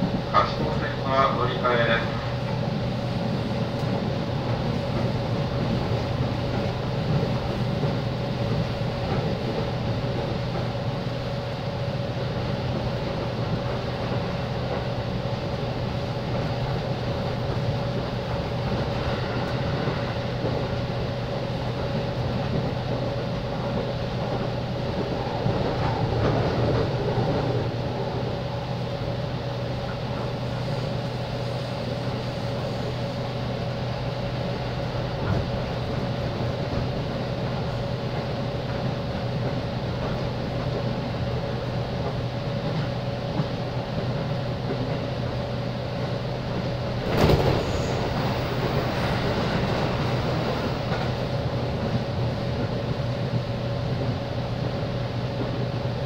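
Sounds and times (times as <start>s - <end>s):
electric train humming: 0.0s - 56.0s.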